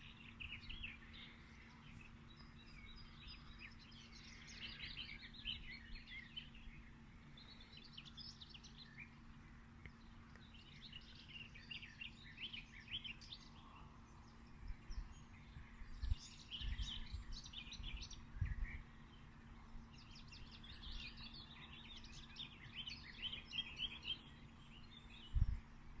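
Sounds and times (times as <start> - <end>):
faint low hum: 0.0 - 26.0
songbirds chirping: 0.0 - 26.0.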